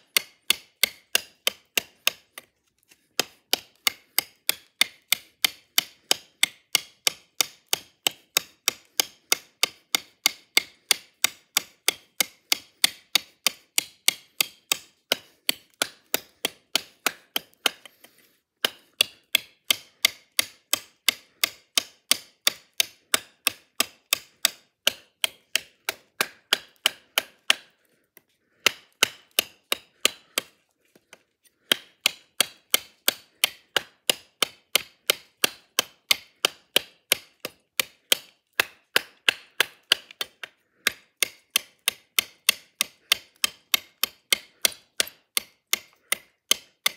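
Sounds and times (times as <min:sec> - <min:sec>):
blade chopping hard wood: 0:00.1 - 0:02.4, 0:03.2 - 0:27.7, 0:28.6 - 0:30.5, 0:31.6 - 0:46.9.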